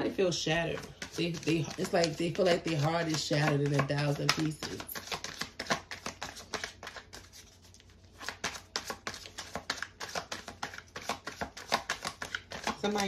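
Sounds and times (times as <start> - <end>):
cards being shuffled: 0.6 - 13.0.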